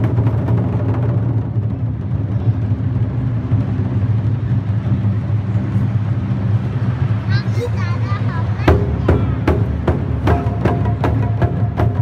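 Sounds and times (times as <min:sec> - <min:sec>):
taiko drums rolling: 0:00.0 - 0:12.0.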